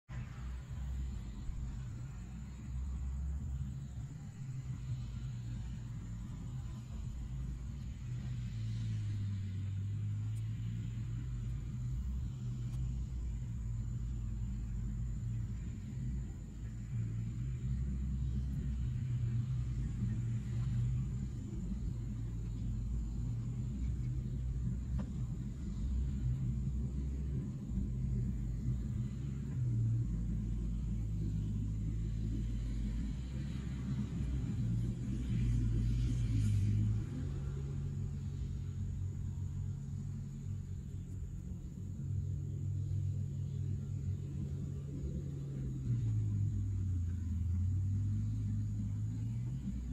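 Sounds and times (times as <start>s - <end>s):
heavy diesel engines droning: 0.0s - 49.9s.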